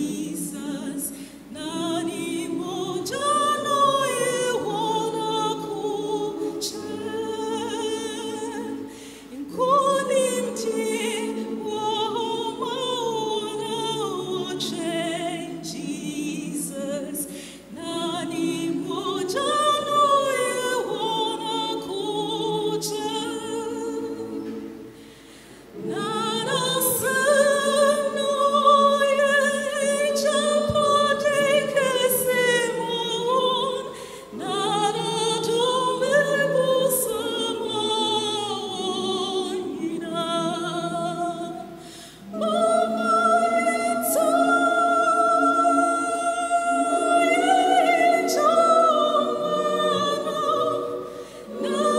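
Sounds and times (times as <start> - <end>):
choir singing: 0.0 - 51.9.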